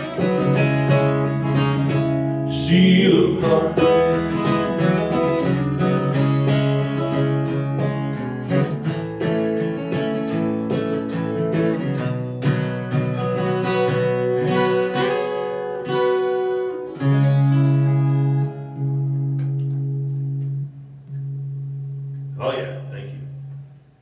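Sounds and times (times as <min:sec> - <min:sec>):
acoustic guitar picking and strumming: 0:00.0 - 0:24.0.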